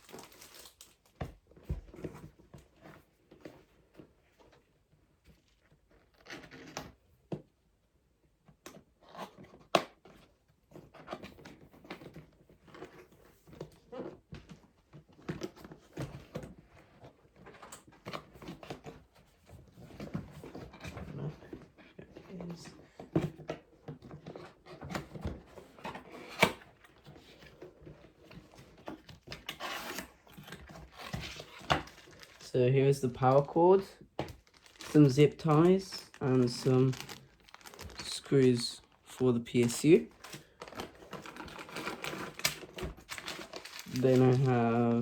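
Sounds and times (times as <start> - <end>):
packaging crinkling and rustling: 0.0 - 4.6, 9.5 - 45.0.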